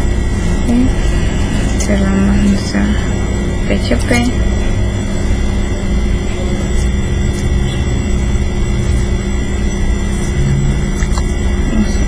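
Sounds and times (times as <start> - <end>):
constant hum: 0.0 - 12.0
low background rumble: 0.0 - 12.0.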